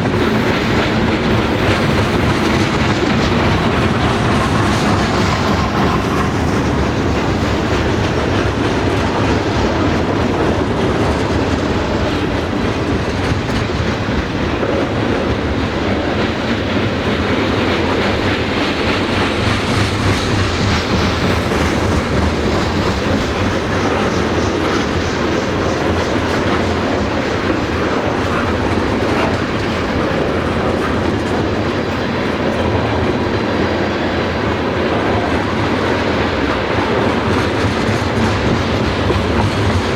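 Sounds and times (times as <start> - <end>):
train cars rolling past: 0.0 - 39.9
wheels clacking over rail joints: 0.0 - 39.9.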